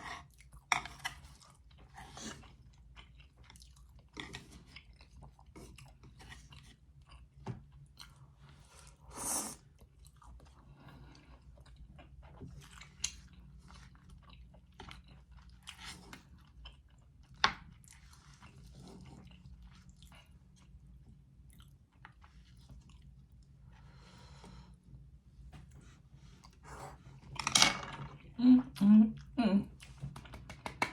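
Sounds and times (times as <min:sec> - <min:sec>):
person chewing food: 0:00.0 - 0:24.8.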